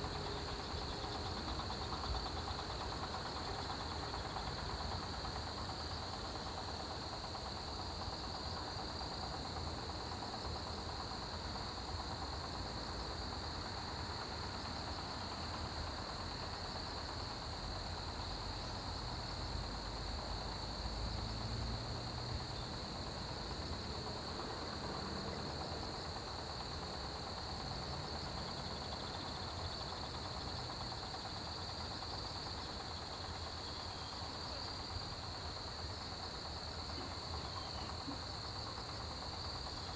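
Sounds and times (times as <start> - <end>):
insects chirping: 0.0 - 39.9
insects trilling: 0.0 - 39.9.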